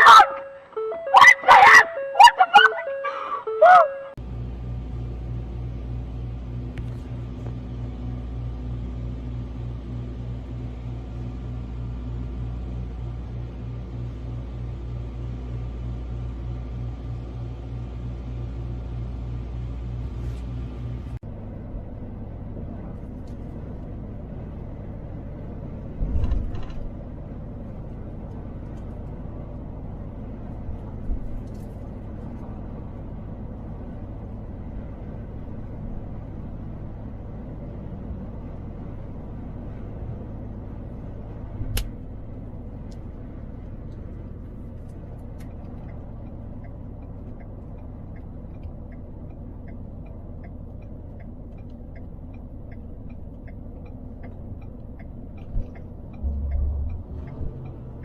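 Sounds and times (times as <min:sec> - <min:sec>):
vehicle road and engine rumble: 0:00.0 - 0:58.0.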